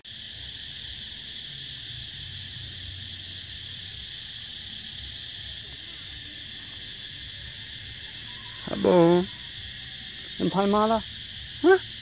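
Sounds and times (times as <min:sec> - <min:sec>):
insect chorus chirring: 0:00.0 - 0:12.0.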